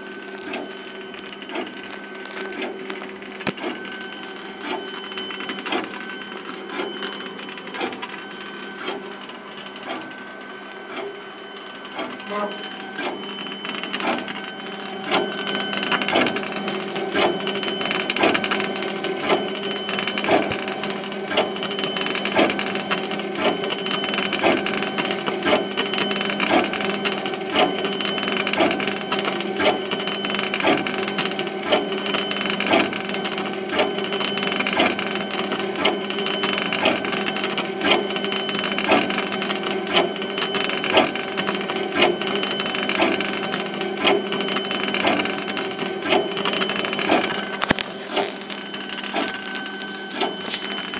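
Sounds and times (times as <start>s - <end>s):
laser engraver motor and fan hum: 0.0s - 50.9s
stepper motor clicks: 0.2s - 10.1s, 10.9s - 50.9s.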